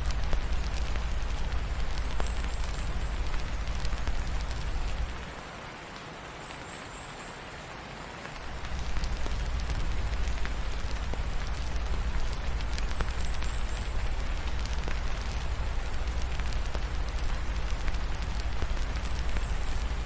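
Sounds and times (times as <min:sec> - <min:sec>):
wood fire crackling: 0:00.0 - 0:05.4, 0:08.3 - 0:20.0
steady rain falling: 0:00.0 - 0:20.0.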